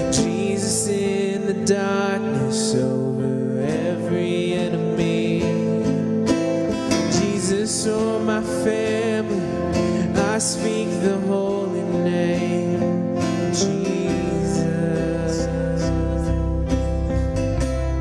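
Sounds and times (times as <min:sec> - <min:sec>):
man and woman singing: 0:00.0 - 0:05.7, 0:07.0 - 0:16.4
acoustic guitar: 0:00.0 - 0:18.0
electric bass: 0:00.0 - 0:18.0
keyboard: 0:00.0 - 0:18.0.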